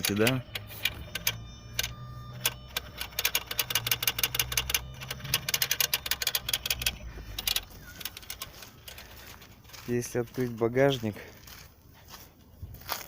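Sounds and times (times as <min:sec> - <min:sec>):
rapid irregular clicking: 0:00.0 - 0:11.0.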